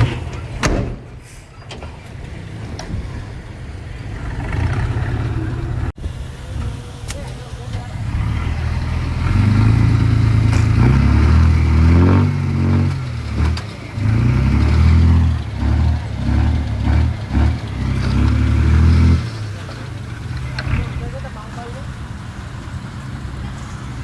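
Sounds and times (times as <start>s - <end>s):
diesel engine revving: 1.3s - 24.0s.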